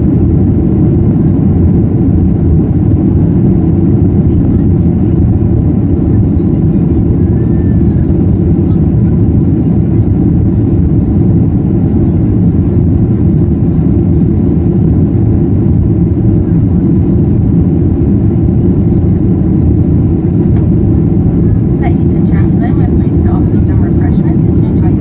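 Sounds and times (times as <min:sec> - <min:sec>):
jet engines rumbling in cabin: 0:00.0 - 0:25.0.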